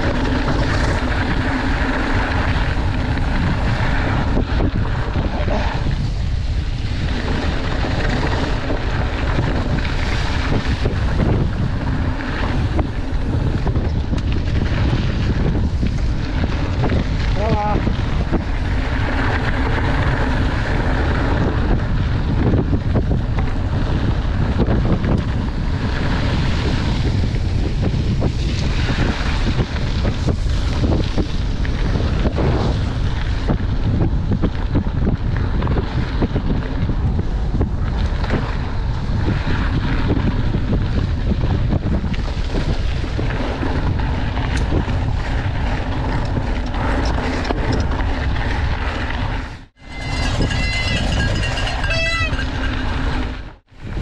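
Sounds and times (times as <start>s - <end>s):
bike knocks and rattles: 0.0s - 54.0s
bike tyres on gravel: 0.0s - 54.0s
wind rumble on microphone: 0.0s - 54.0s.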